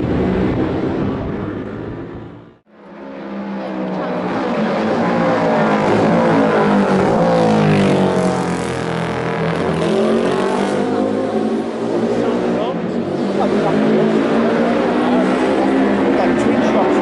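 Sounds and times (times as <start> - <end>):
racing motorcycle passing by: 0.0 - 17.0.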